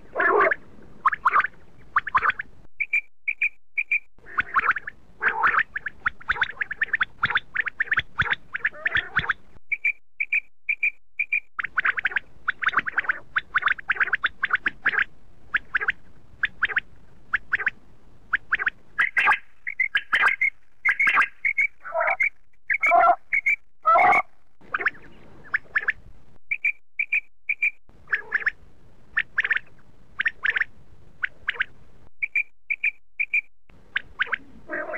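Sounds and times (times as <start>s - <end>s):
quail calling: 0.1s - 17.8s, 18.4s - 34.9s.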